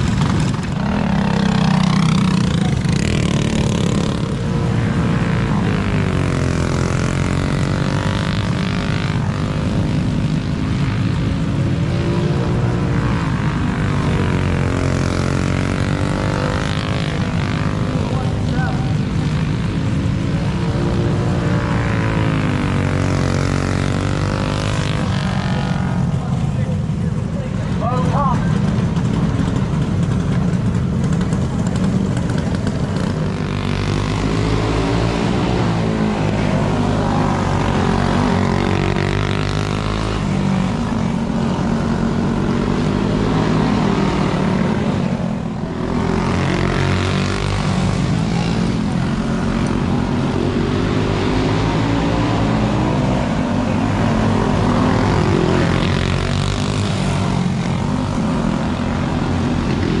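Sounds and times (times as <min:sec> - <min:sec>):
go-kart engines racing: 0:00.0 - 1:00.0.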